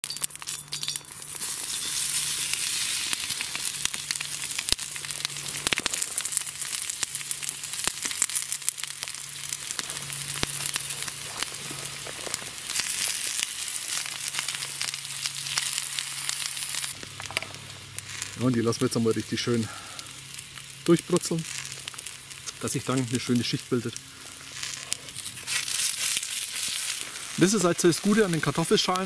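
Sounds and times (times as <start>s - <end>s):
potato peels sizzling in a pan: 0.0s - 29.0s.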